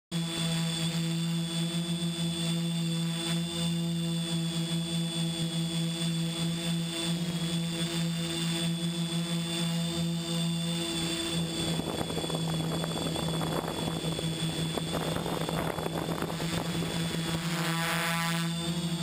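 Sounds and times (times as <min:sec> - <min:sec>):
drone propellers droning: 0:00.1 - 0:19.0.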